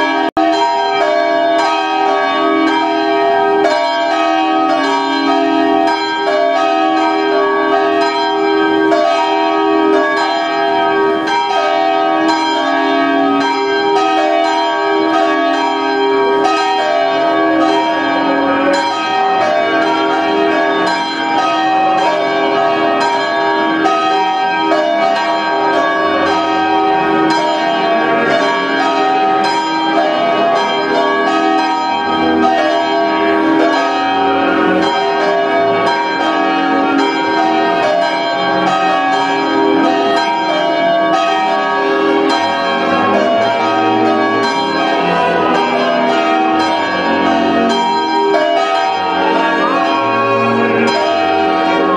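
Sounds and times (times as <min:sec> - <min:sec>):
church bells pealing: 0:00.0 - 0:51.9.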